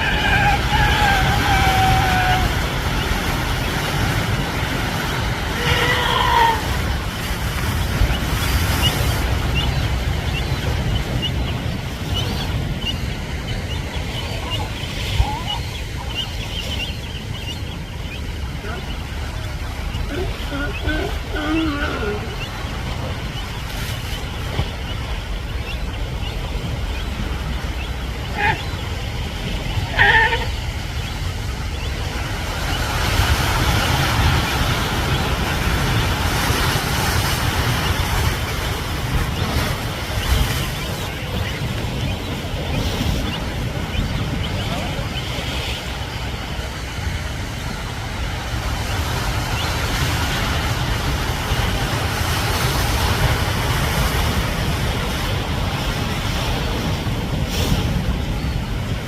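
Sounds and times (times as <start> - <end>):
surf washing against rocks: 0.0 - 16.4, 17.2 - 59.0
wind buffeting microphone: 0.0 - 59.0.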